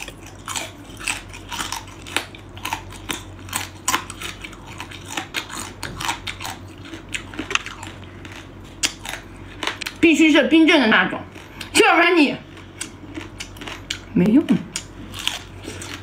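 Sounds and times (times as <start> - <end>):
crab shell crunching: 0.0 - 10.0, 12.4 - 16.0.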